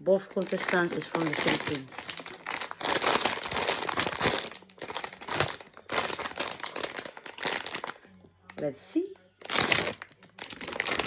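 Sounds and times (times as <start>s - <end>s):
packaging crinkling: 0.2s - 8.0s, 9.4s - 11.0s.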